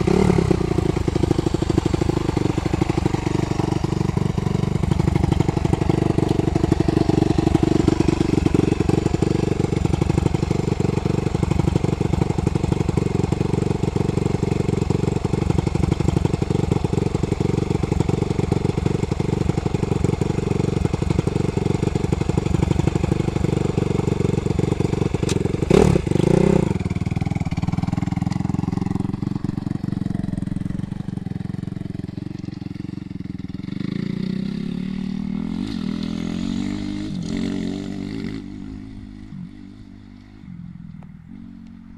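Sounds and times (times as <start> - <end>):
motorcycle engine idling: 0.0 - 35.3
motorcycle revving: 0.0 - 41.9.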